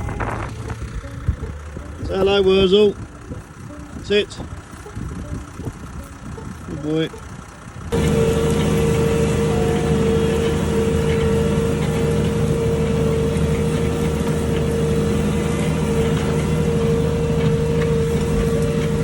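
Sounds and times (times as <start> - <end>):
constant whine: 0.0 - 19.0
tractor diesel engine running: 0.0 - 19.0.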